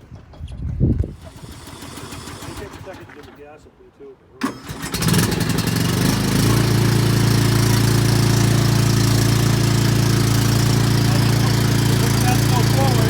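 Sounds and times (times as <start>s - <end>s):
lawn mower engine running: 1.0s - 3.4s, 4.4s - 13.0s.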